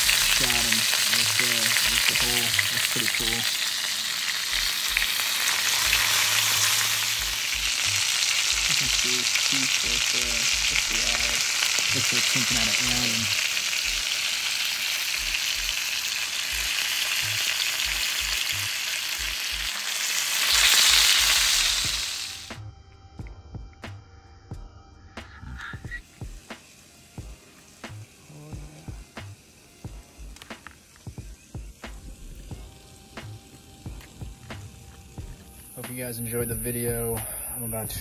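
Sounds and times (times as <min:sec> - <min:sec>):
fish frying sizzle: 0:00.0 - 0:22.6, 0:25.9 - 0:38.0.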